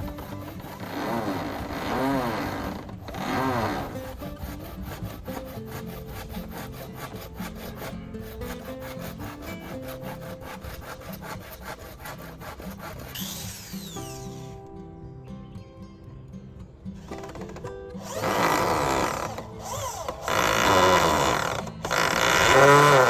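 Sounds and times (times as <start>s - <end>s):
saw cutting bamboo: 0.0s - 14.6s, 17.0s - 23.0s
background music: 0.0s - 23.0s.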